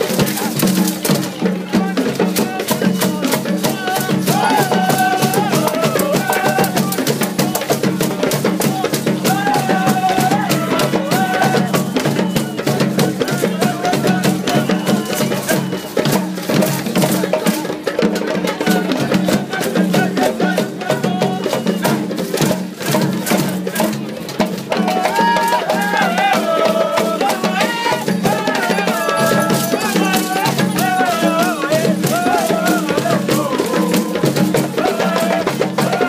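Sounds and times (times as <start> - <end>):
hand drums fast rhythm: 0.0 - 36.0.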